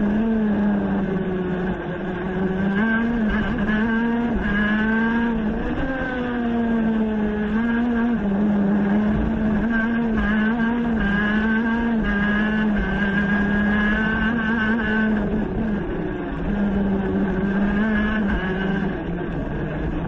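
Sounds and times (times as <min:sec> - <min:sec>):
race car engine high-revving: 0:00.0 - 0:20.0.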